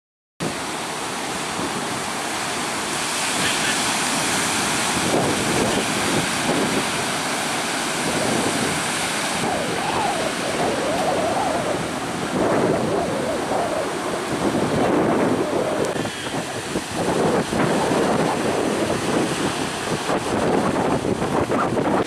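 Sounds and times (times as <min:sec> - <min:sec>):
surf breaking on beach: 0:00.4 - 0:22.0
wind buffeting microphone: 0:04.0 - 0:22.0.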